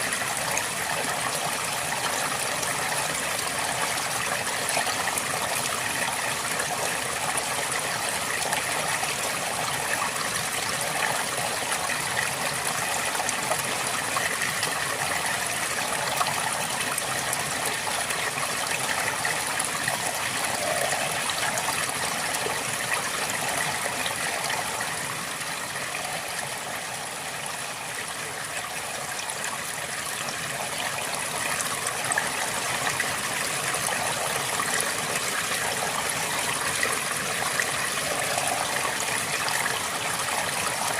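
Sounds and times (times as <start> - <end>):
river water babbling: 0.0 - 40.9.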